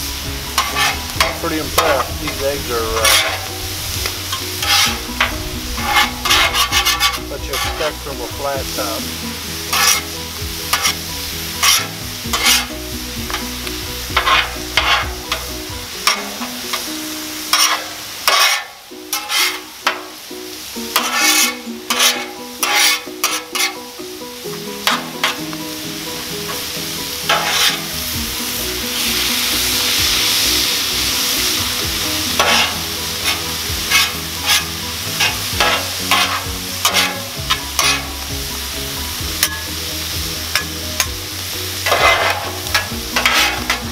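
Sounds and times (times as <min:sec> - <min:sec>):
metal spatulas scraping griddle: 0:00.0 - 0:20.2, 0:20.8 - 0:23.9, 0:24.6 - 0:25.6, 0:26.4 - 0:41.2, 0:41.8 - 0:43.9
food sizzling on griddle: 0:00.0 - 0:43.9.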